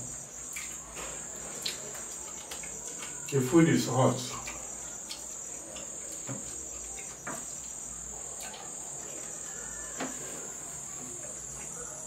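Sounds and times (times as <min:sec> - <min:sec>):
high-pitched insect chirring: 0:01.6 - 0:11.9.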